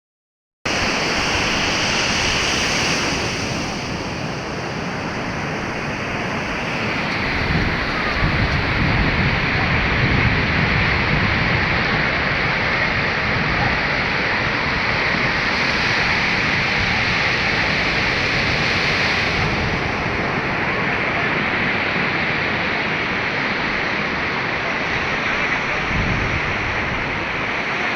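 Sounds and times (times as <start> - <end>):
surf breaking on sandy beach: 0.7 - 27.9
wind rumbling on microphone: 0.7 - 27.9.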